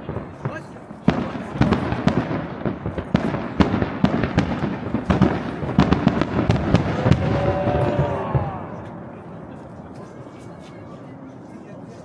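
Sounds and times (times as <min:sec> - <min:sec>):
fireworks bangs and crackling: 0:00.0 - 0:10.2.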